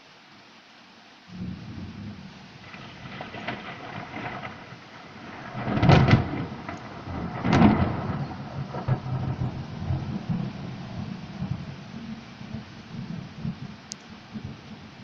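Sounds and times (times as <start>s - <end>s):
rain hissing: 0.0s - 15.0s
thunder rumbling: 1.3s - 15.0s.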